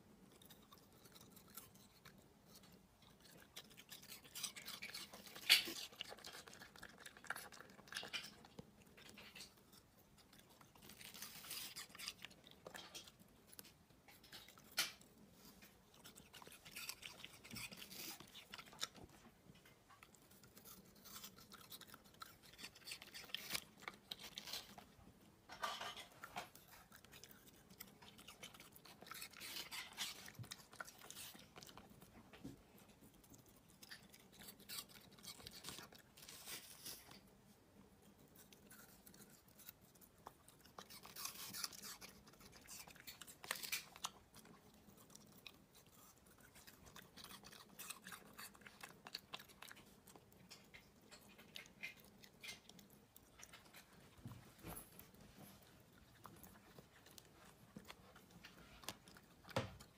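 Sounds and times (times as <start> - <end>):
puppy chewing and smacking: 0.0 - 59.9.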